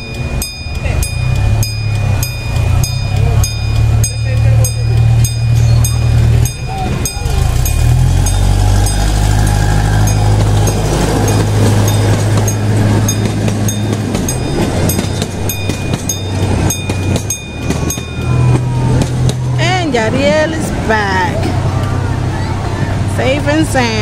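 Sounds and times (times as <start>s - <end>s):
ride-on train humming: 0.0s - 24.0s.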